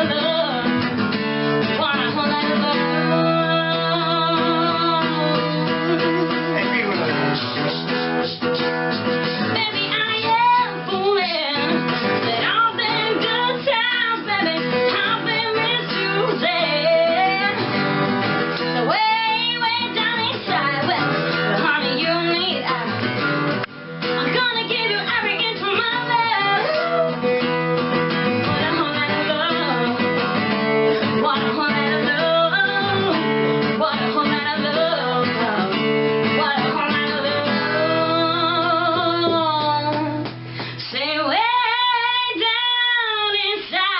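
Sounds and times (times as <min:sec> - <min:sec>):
song with guitar and singing: 0:00.0 - 0:43.9.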